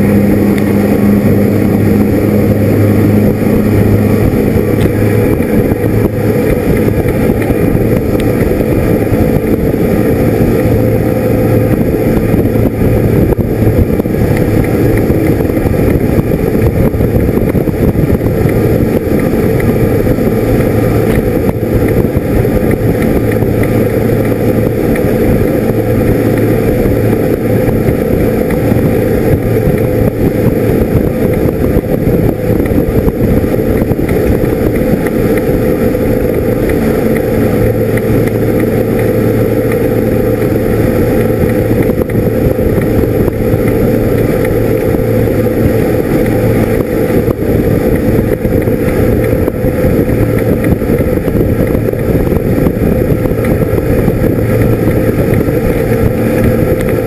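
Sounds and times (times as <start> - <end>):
boat engine droning: 0.0 - 57.0
rush of boat wake: 0.0 - 57.0
wind: 0.0 - 57.0.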